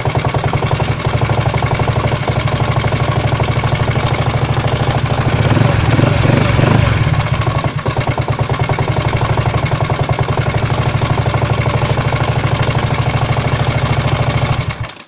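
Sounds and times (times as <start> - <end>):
engine knock: 0.0 - 15.0
scooter engine idling: 0.0 - 15.0.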